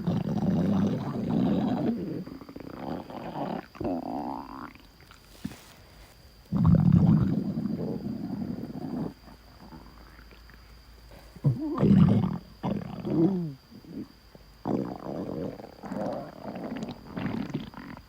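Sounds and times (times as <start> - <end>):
stomach growling: 0.0 - 5.8, 6.5 - 18.0.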